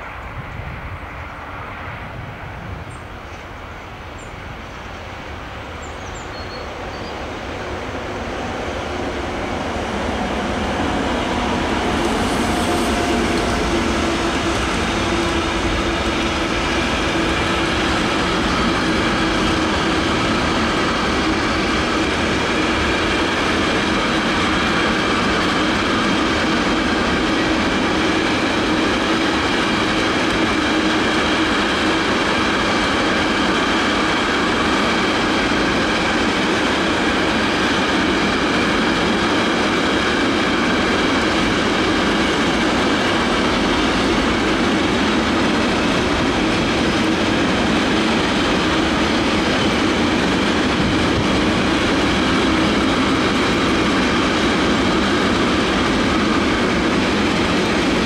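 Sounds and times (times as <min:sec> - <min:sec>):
freight train passing: 0:00.0 - 0:58.0
train wheels on rails: 0:00.0 - 0:58.0.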